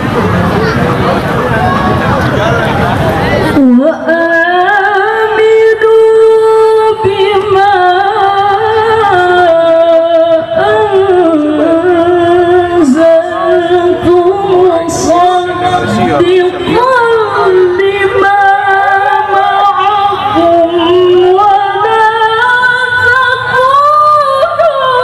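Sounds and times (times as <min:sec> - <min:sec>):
woman reciting melodically: 0:03.6 - 0:25.0.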